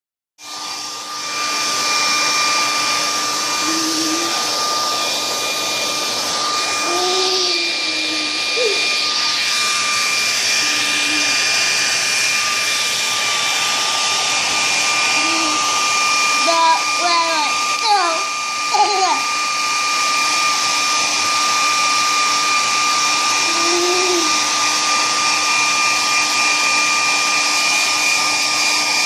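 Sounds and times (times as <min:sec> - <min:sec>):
blower motor high-pitched whine: 0:00.4 - 0:29.0
electric blower rushing air: 0:00.4 - 0:29.0.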